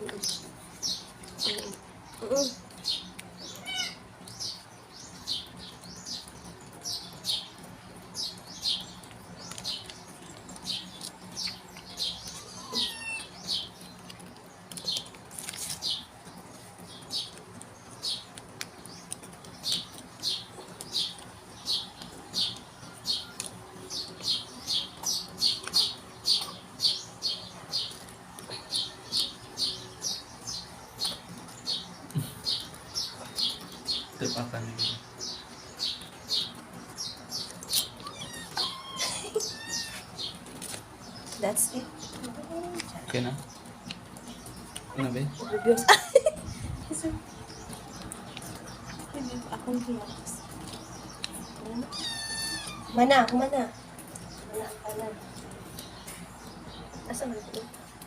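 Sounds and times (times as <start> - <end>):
small bird chirping: 0.0 - 58.0.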